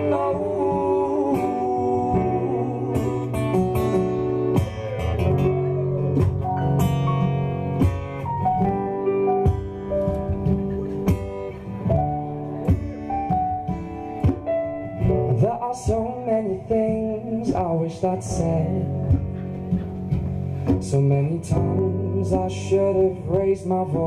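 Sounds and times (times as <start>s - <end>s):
acoustic guitar strumming and picking: 0.0s - 24.0s.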